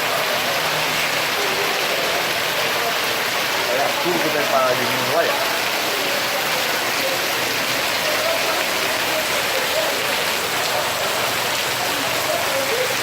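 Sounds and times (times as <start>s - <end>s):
heavy rain and hail pelting: 0.0s - 13.0s.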